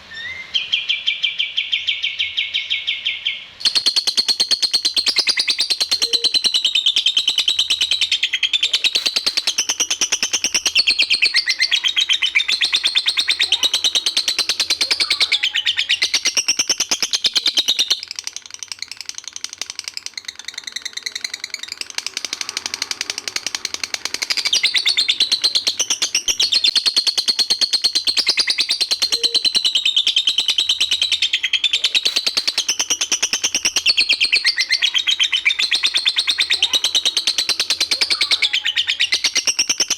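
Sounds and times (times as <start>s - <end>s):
songbird rapid chatter: 3.6s - 39.9s.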